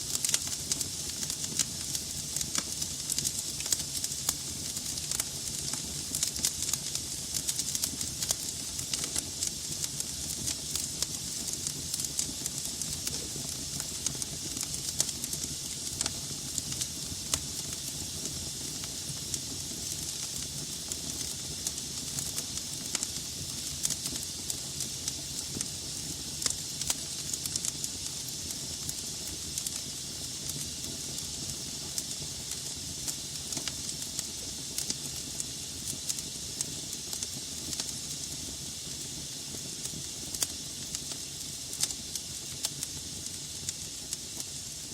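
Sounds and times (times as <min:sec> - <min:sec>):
fire hissing: 0:00.0 - 0:44.9
wood fire crackling and popping: 0:00.0 - 0:44.9.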